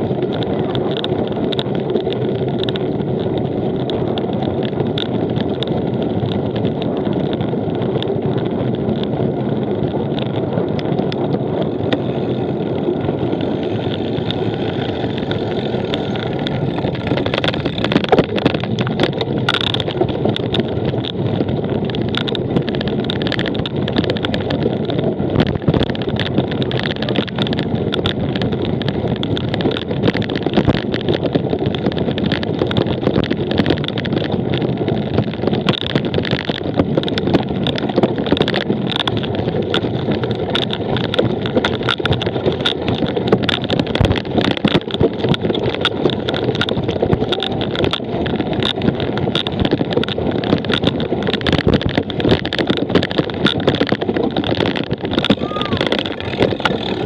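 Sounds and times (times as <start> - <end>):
bike rattling over rough ground: 0.0 - 57.0
wind rush on microphone: 0.0 - 57.0.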